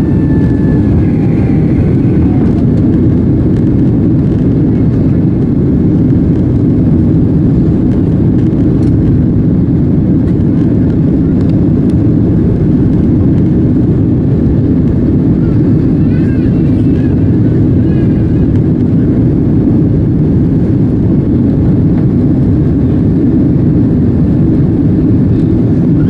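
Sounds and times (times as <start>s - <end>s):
jet engines rumbling: 0.0s - 26.0s
rushing air: 0.0s - 26.0s.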